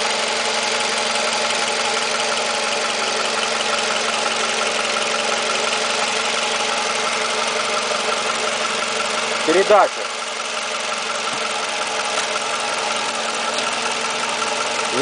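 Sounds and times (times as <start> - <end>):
car engine idling: 0.0 - 15.0
fast light engine ticking: 0.0 - 15.0.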